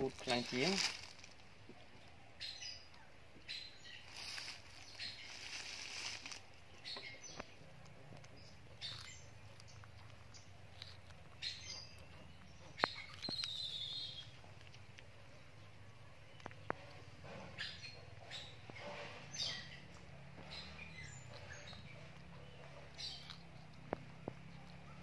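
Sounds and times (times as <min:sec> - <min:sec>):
soft crunching and rustling: 0:00.0 - 0:25.0.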